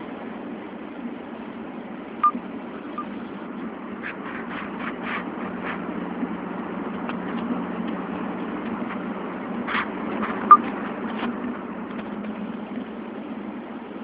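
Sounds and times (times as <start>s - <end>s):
car road and tyre noise: 0.0s - 14.0s.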